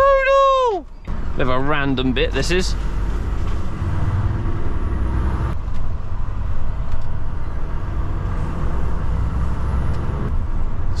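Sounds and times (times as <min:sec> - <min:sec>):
lorry engine and road noise: 0:00.0 - 0:11.0.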